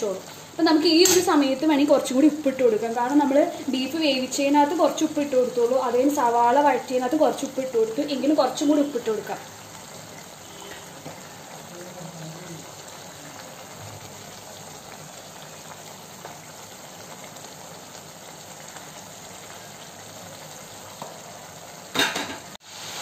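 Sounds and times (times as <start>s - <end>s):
gravy simmering and sizzling: 0.0s - 23.0s.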